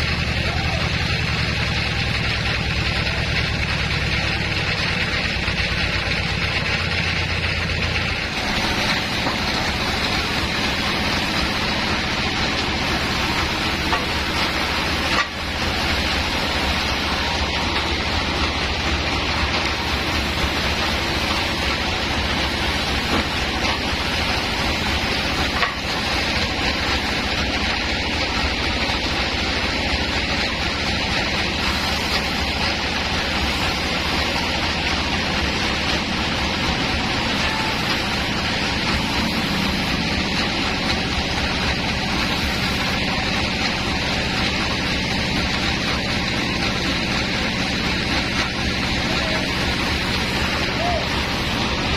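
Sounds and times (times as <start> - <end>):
woodworking machinery running: 0.0 - 51.9.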